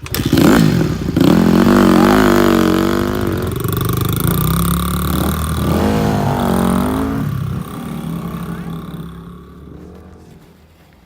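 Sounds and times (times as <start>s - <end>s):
dirt bike engine revving: 0.0s - 10.8s.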